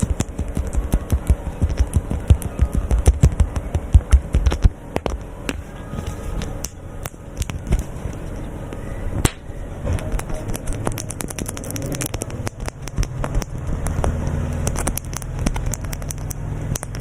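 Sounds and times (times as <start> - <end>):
quick clicks and scratches: 0.0 - 8.5, 9.9 - 17.0.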